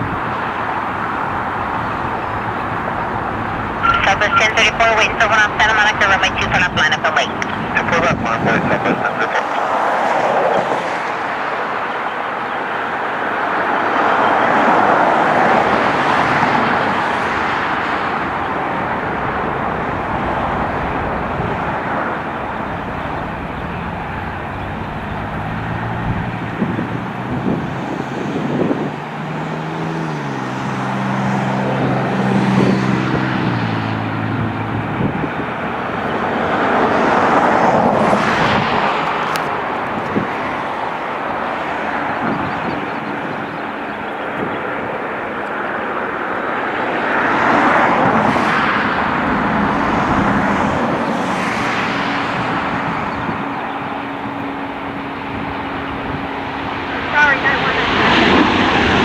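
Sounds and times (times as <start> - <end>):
low engine drone: 0.0 - 9.4, 14.2 - 29.4, 30.5 - 46.4, 48.8 - 59.0
jet engine roar: 0.0 - 59.0.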